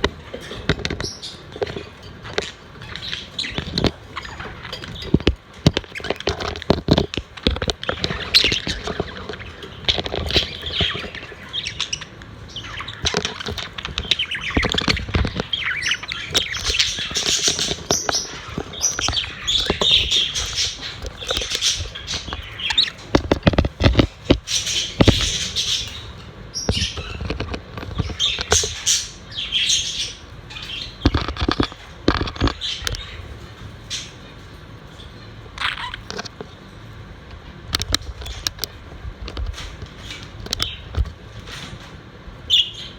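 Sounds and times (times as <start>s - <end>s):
budgerigars chirping: 0.3s - 36.3s, 42.4s - 42.9s.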